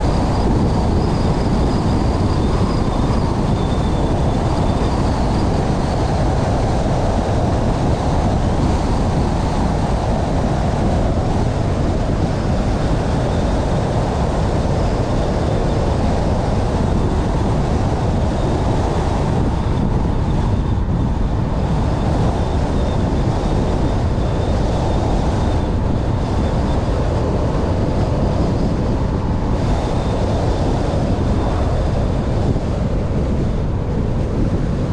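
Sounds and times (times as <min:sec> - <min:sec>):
vehicle rumble and road noise: 0:00.0 - 0:34.9.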